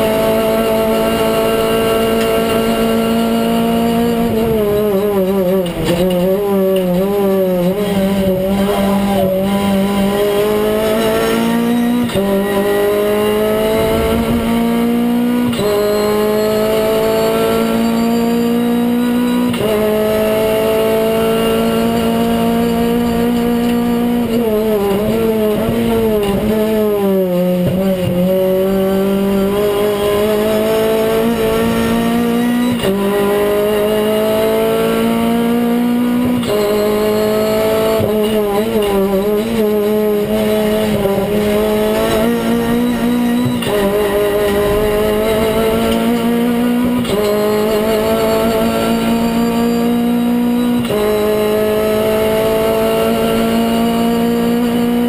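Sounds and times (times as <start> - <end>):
race car engine at full throttle: 0.0 - 55.0.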